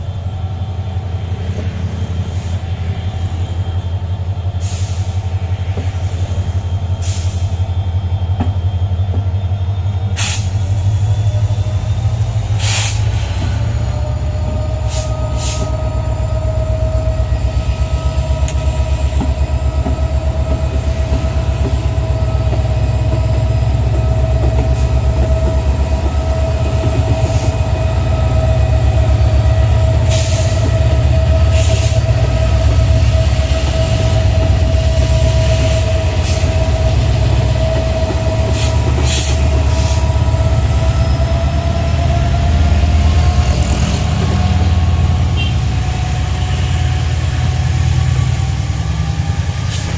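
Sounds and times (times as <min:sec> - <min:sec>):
train rumbling past: 0:00.0 - 0:49.9.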